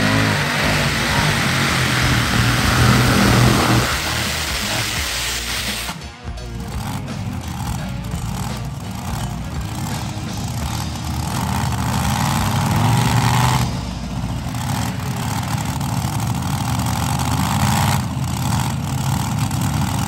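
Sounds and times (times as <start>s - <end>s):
tractor engine revving: 0.0s - 20.0s.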